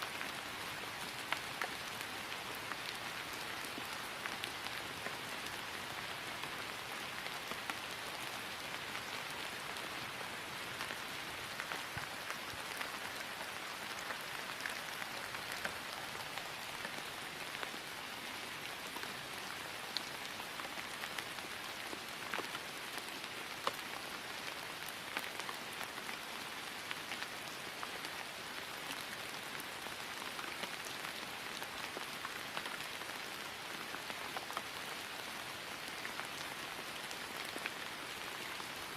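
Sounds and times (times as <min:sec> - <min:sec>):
rain falling on grass: 0:00.0 - 0:38.9.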